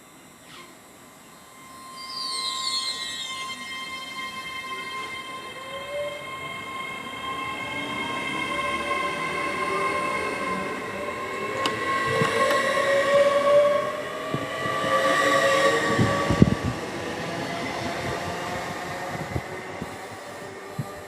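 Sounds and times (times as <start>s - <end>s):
train high whine: 0.0s - 21.0s
train rumbling: 3.4s - 21.0s.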